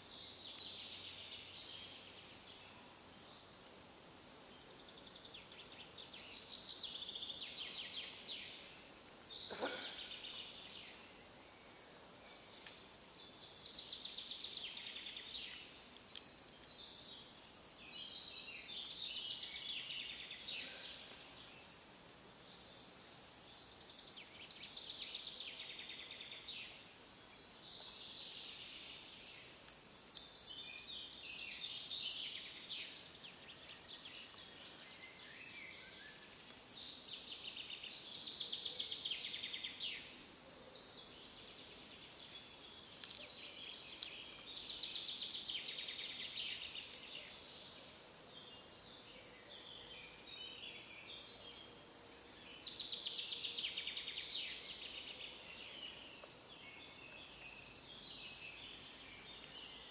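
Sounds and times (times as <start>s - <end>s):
songbirds singing: 0.0s - 59.9s
woodland ambience: 0.0s - 59.9s.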